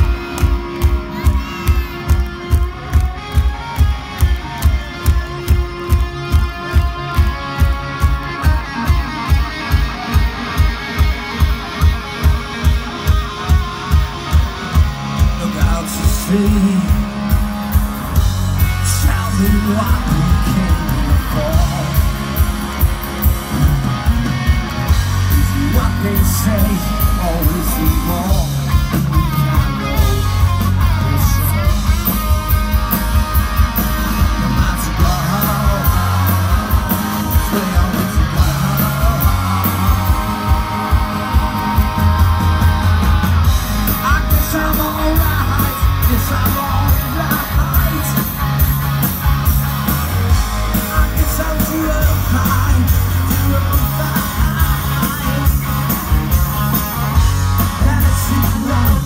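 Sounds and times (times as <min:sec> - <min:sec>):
live rock band: 0:00.0 - 0:59.0.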